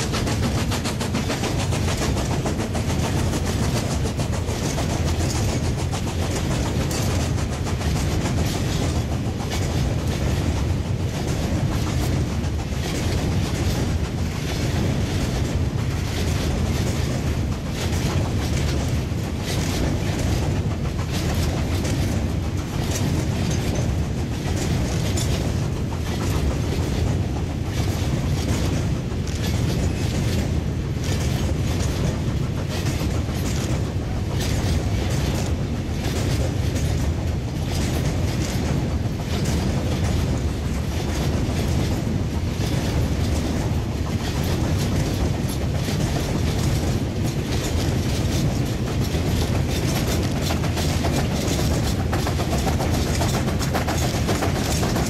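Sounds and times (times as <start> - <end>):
steam locomotive working hard: 0.0 - 55.0
train rumbling: 0.0 - 55.0
wagon wheels clattering over rail joints: 0.0 - 55.0.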